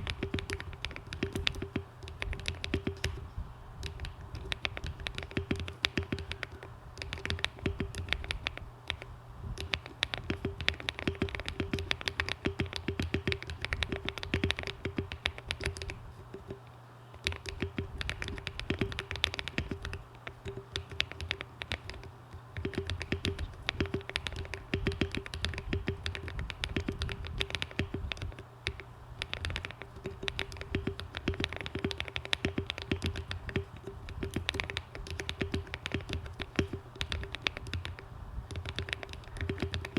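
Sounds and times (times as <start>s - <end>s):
fast typing on mechanical keyboard: 0.0s - 3.2s, 3.8s - 16.6s, 17.2s - 39.9s.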